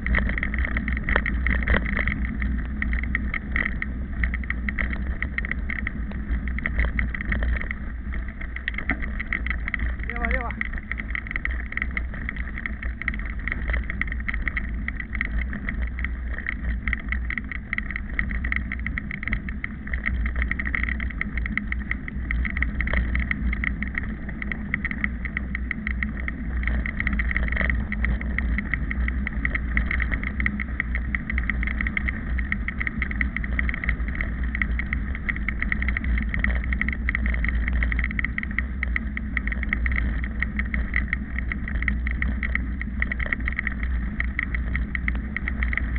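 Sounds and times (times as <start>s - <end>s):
wind rumble on microphone: 0.0s - 45.9s.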